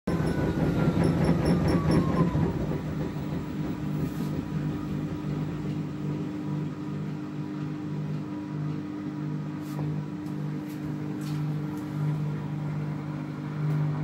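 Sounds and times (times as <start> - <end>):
drum motor whine: 0.1 - 14.0
washing machine motor hum: 0.1 - 14.0.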